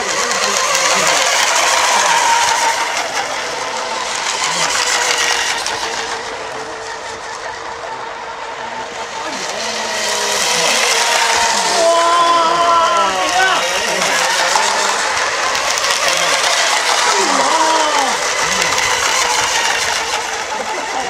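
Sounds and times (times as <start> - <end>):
hissing water spray: 0.0 - 12.0, 12.9 - 21.0
model boat motor whine: 0.0 - 21.0.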